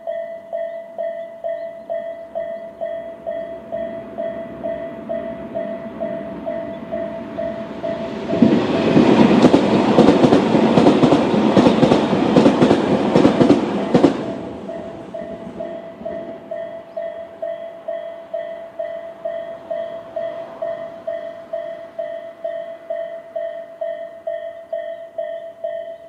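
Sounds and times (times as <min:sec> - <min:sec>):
level crossing warning bell: 0:00.0 - 0:11.3, 0:13.4 - 0:26.0
train wheels rumbling and clacking: 0:01.9 - 0:24.0.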